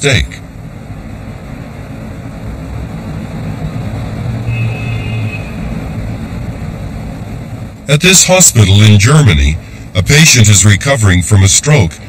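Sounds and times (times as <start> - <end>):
distant traffic rumble: 0.0 - 12.0
low hum: 0.0 - 12.0.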